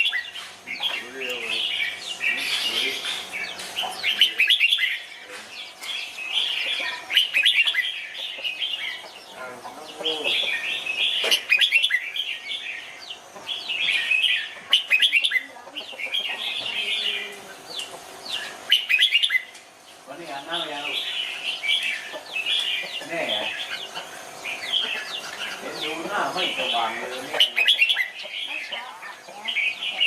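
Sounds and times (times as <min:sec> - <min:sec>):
birds chirping phrases: 0:00.0 - 0:30.0.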